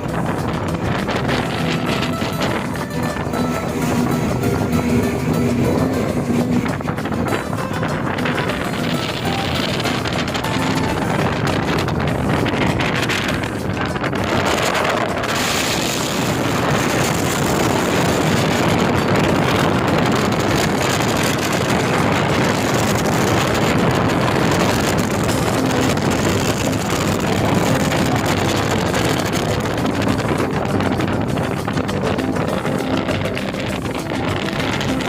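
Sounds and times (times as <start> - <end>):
boat engine running: 0.0 - 35.0
wind buffeting microphone: 0.0 - 35.0.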